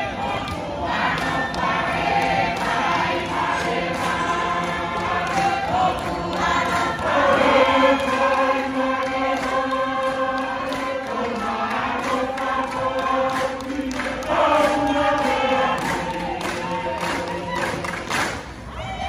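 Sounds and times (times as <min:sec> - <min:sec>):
women singing in chorus: 0:00.0 - 0:18.5.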